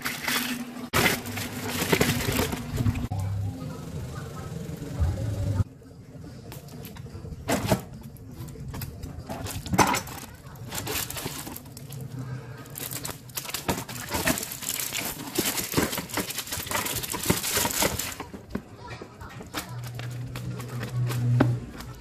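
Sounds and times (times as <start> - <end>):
plastic wrap and cardboard rustling: 0.0 - 3.1, 6.8 - 22.0.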